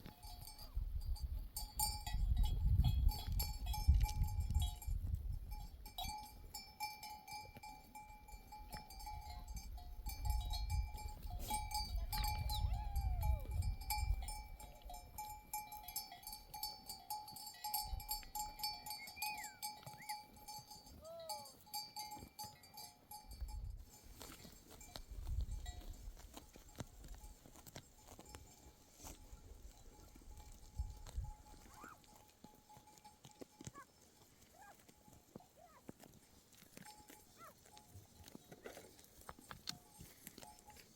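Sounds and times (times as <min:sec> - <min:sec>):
sheep bells clanking: 0:00.0 - 0:40.9.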